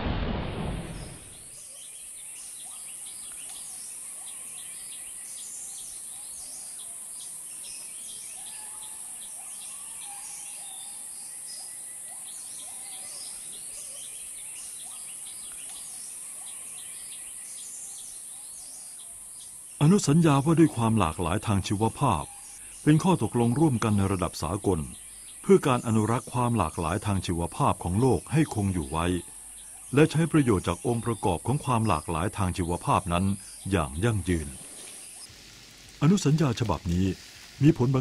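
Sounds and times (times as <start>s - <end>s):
birds chirping and calling: 1.0s - 38.0s.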